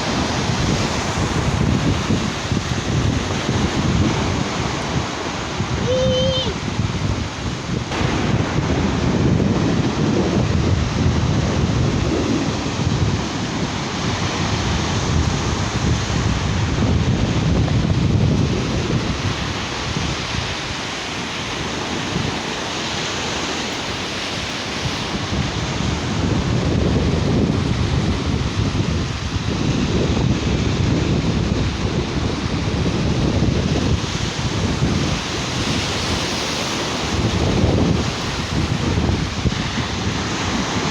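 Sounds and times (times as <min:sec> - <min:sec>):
sea surf washing onto beach: 0:00.0 - 0:40.9
wind rumbling on microphone: 0:00.0 - 0:40.9.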